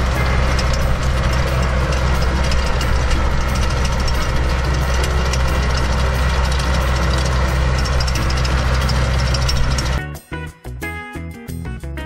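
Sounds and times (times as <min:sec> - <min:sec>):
fast ticking clatter: 0:00.0 - 0:10.0
diesel tractor engine running: 0:00.0 - 0:10.3.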